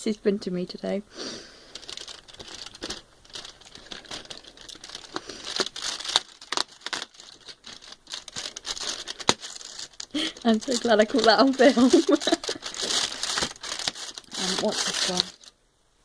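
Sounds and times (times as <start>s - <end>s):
crinkly rustling: 1.4s - 15.6s.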